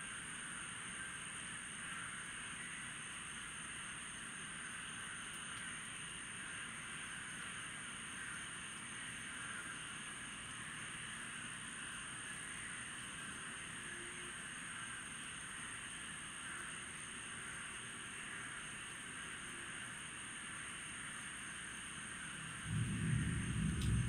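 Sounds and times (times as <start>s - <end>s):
chirring insect and frog chorus: 0.0s - 24.0s
high-pitched insect trill: 0.0s - 24.0s.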